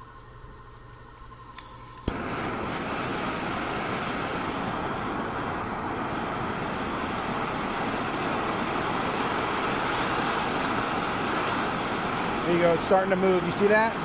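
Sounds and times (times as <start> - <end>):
gas torch flame hissing: 1.6 - 14.0.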